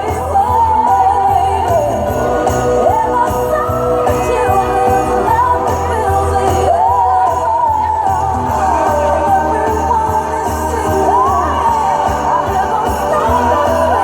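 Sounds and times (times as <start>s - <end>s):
backing music: 0.0s - 14.0s
person singing: 0.0s - 14.0s
sleigh bells jingling: 0.0s - 14.0s.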